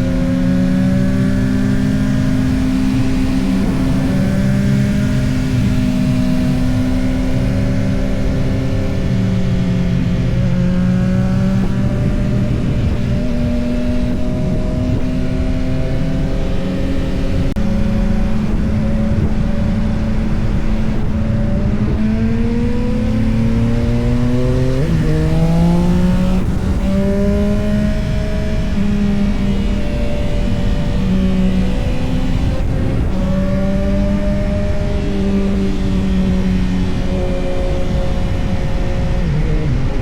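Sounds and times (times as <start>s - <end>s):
motorcycle engine accelerating: 0.0s - 40.0s
wind noise: 0.0s - 40.0s.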